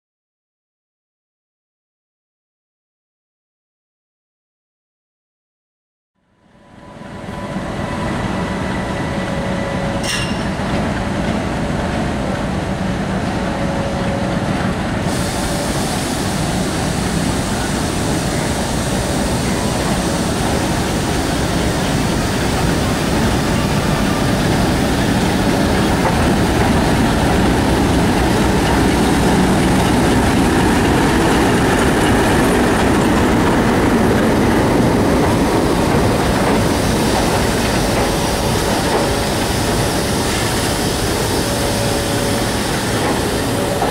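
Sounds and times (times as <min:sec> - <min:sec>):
diesel locomotive running: 0:06.5 - 0:43.9
coaches rolling on rails: 0:07.6 - 0:43.9.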